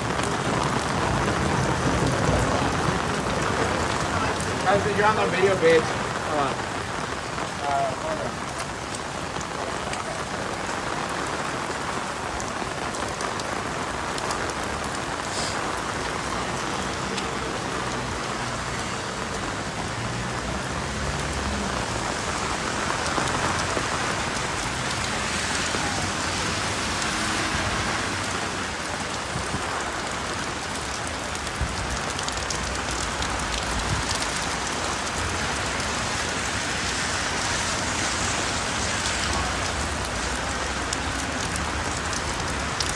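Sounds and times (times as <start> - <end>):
rain on wet pavement: 0.0 - 42.9
rain tapping on umbrella: 0.0 - 42.9.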